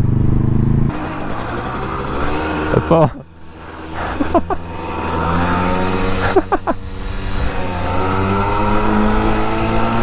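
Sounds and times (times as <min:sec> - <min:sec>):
moped engine accelerating: 0:00.0 - 0:10.0.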